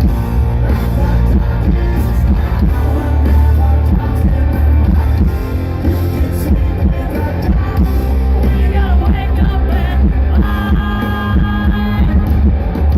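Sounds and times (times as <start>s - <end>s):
person singing: 0.0s - 12.4s
hard rock band playing: 0.0s - 12.9s.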